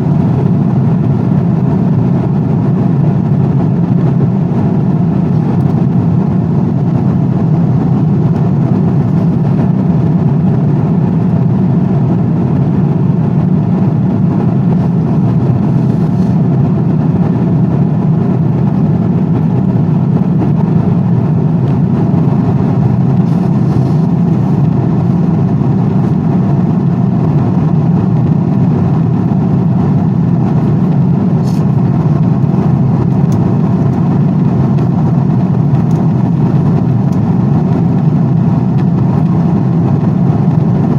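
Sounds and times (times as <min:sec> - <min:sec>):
aeroplane rumble: 0:00.0 - 0:40.9.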